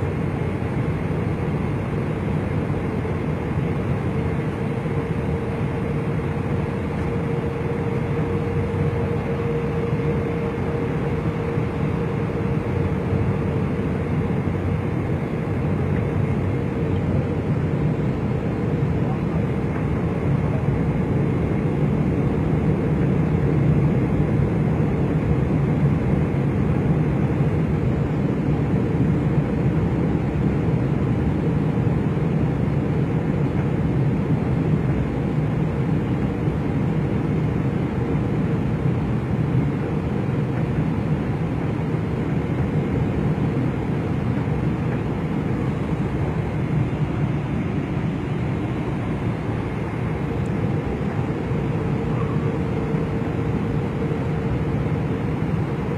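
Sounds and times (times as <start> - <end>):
airliner cabin engine rumble: 0.0 - 55.9
faint steady hum: 0.0 - 55.9.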